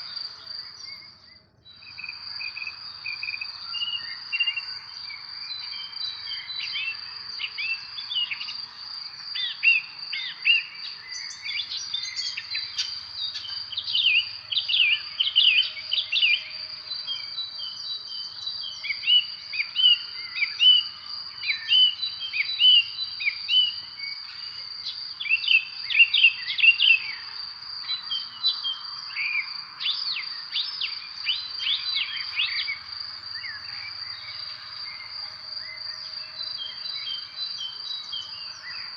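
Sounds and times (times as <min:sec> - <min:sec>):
birds chirping: 0:00.0 - 0:38.9
crickets droning: 0:00.0 - 0:38.9.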